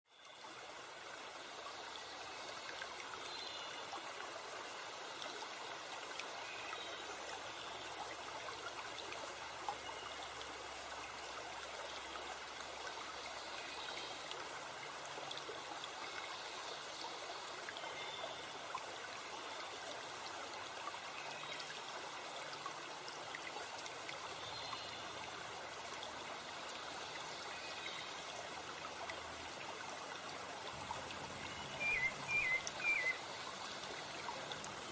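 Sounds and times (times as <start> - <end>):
stream and waterfall rushing: 0.5 - 34.9.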